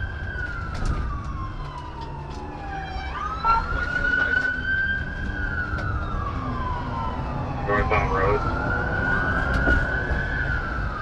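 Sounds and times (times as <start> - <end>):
low road rumble: 0.0 - 11.0
police siren wailing: 0.0 - 11.0.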